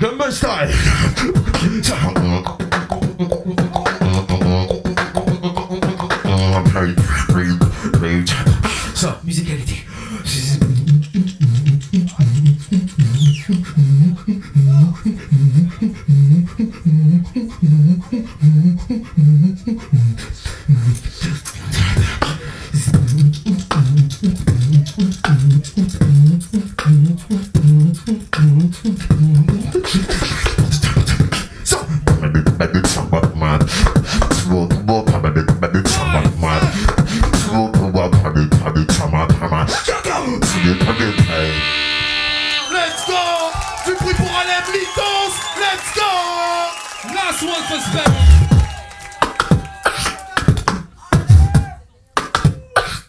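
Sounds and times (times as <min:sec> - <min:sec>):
beatboxing into a microphone: 0:00.0 - 0:53.0.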